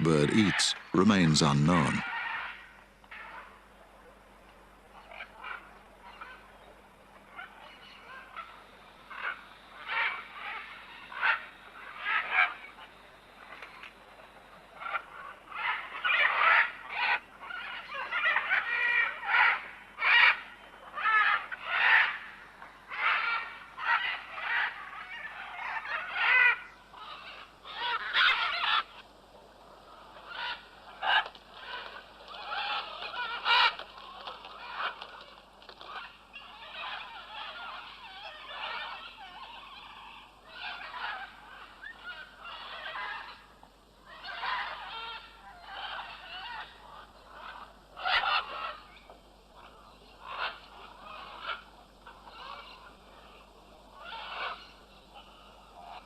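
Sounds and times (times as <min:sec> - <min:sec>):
macaws squawking: 0:00.0 - 0:02.6, 0:07.4 - 0:12.9, 0:14.8 - 0:29.0, 0:29.8 - 0:56.0.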